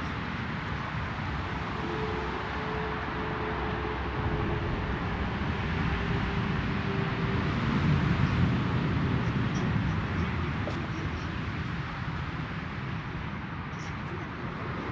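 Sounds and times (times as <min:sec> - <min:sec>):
low engine hum: 0:00.0 - 0:14.9
road and wind noise: 0:00.0 - 0:14.9.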